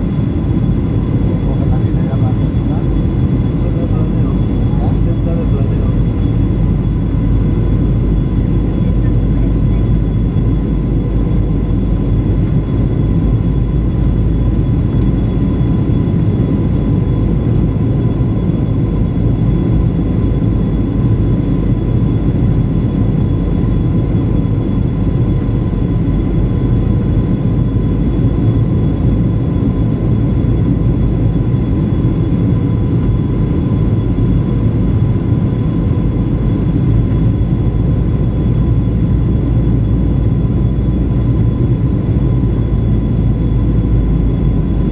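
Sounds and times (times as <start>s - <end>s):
faint steady whines: 0.0s - 44.9s
jet engines humming: 0.0s - 44.9s.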